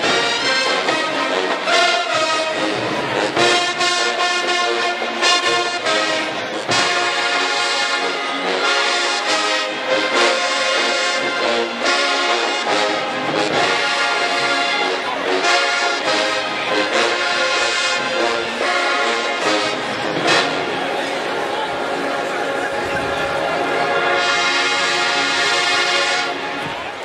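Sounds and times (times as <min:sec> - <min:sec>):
marching band brass playing: 0:00.0 - 0:27.0.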